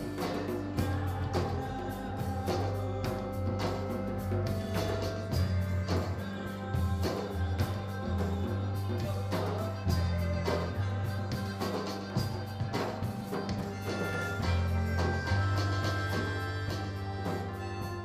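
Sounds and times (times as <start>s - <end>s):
electric bass line: 0.0s - 18.0s
keyboards: 0.0s - 18.0s.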